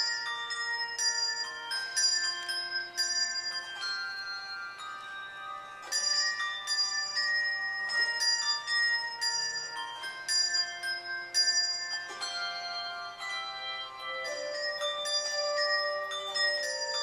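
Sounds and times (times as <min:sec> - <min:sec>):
handbell choir ringing: 0:00.0 - 0:17.0.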